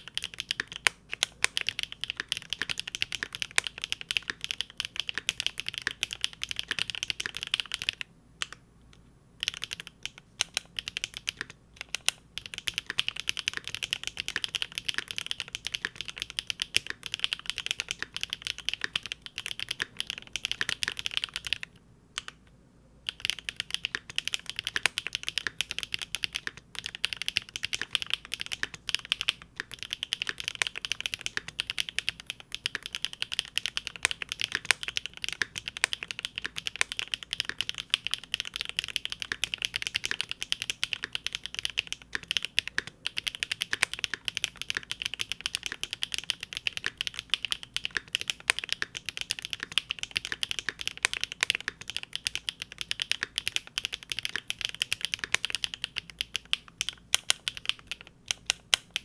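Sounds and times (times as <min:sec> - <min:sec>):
fast mechanical keyboard typing: 0:00.0 - 0:08.0, 0:09.4 - 0:22.3, 0:23.1 - 0:59.0.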